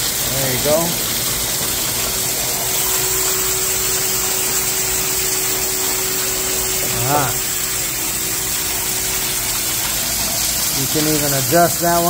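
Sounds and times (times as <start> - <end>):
coolant gushing: 0.0 - 12.0
pump hum: 0.0 - 12.0.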